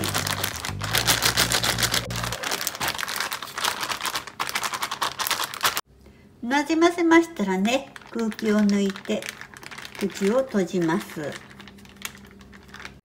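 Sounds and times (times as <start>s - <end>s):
plastic bag crinkling: 0.0s - 5.8s, 7.4s - 13.0s.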